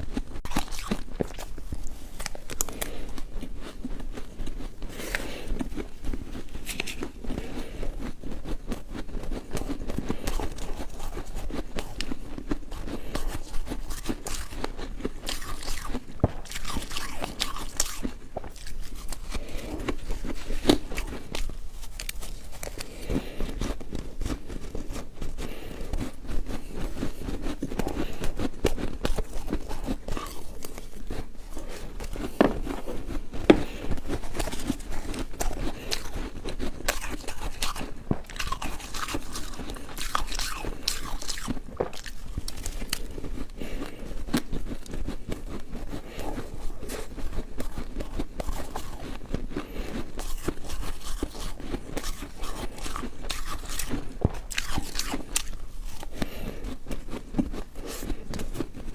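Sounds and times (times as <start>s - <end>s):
ice being chewed and crunched: 0.0s - 58.9s.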